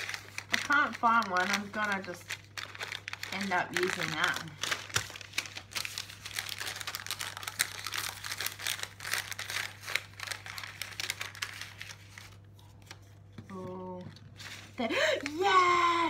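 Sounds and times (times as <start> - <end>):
plastic packet crinkling and tearing: 0.0 - 13.0.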